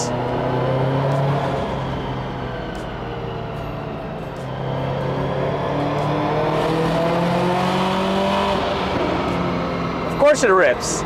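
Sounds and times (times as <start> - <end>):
turbo car engine revving: 0.0 - 2.9, 4.3 - 11.0.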